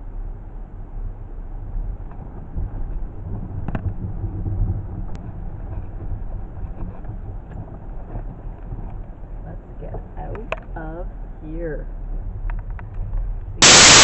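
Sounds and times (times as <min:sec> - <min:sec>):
vehicle rumble inside cabin: 0:00.0 - 0:14.0.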